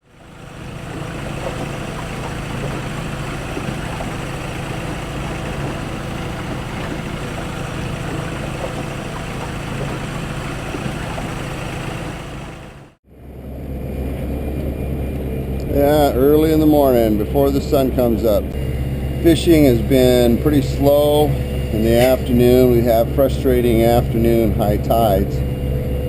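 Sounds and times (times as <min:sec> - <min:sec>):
boat motor running: 0:00.0 - 0:13.0, 0:14.6 - 0:26.0
deeper engine hum: 0:00.0 - 0:26.0.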